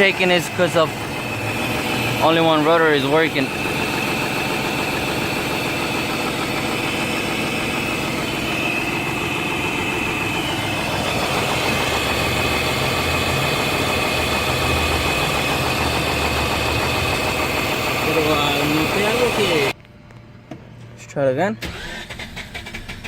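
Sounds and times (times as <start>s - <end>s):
rotary engine idling unevenly: 0.0s - 19.8s.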